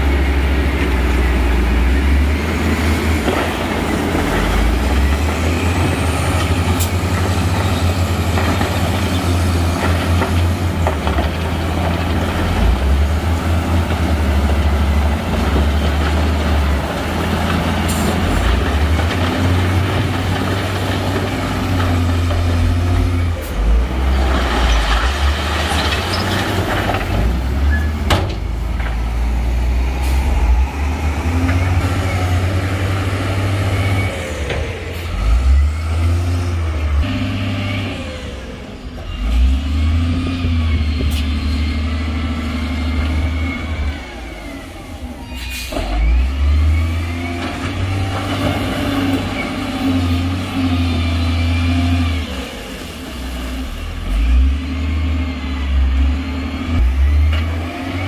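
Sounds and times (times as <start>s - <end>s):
heavy diesel engines revving: 0.0s - 58.0s.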